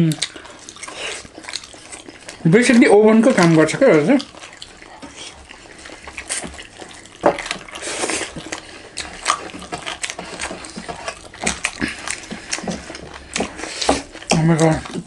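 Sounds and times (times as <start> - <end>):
close chewing and lip smacks: 0.0 - 15.0
hands squishing rice: 0.0 - 15.0.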